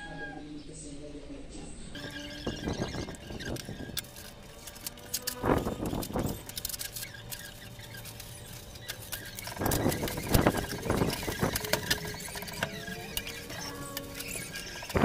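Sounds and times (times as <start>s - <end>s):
plastic wrap crinkling: 2.0s - 15.0s.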